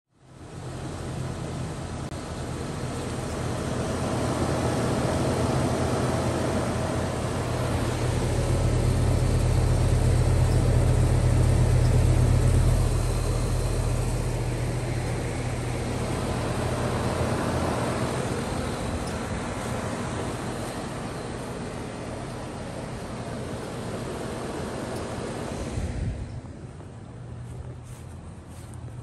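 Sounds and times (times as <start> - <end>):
heat pump fan blowing: 0.1 - 29.0.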